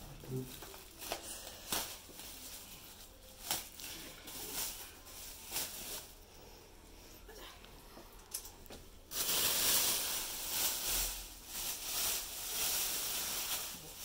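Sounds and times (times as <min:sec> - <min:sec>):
plastic bag rustling: 0:00.0 - 0:06.6, 0:08.6 - 0:14.0.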